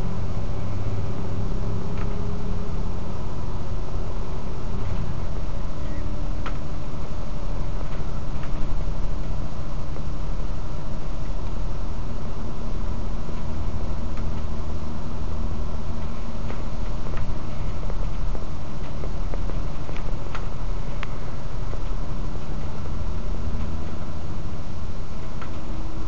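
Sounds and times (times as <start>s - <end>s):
bus engine drone: 0.0s - 26.0s
road rumble: 0.0s - 26.0s.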